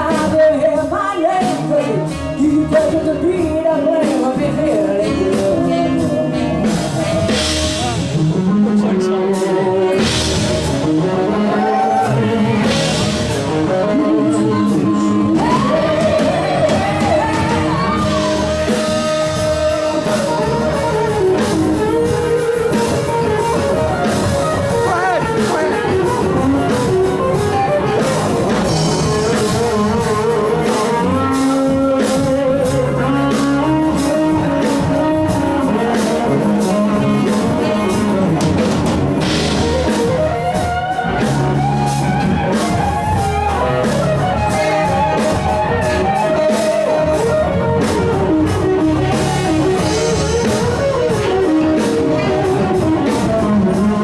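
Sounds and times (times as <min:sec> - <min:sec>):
bass guitar: 0:00.0 - 0:54.0
drum kit: 0:00.0 - 0:54.0
electric guitar: 0:00.0 - 0:54.0
wavering lead melody: 0:00.0 - 0:54.0.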